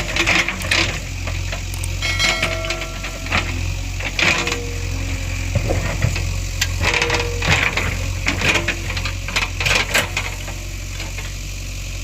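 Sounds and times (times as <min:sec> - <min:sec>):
diesel engine running: 0:00.0 - 0:12.0
metallic clanks and knocks: 0:00.1 - 0:10.6.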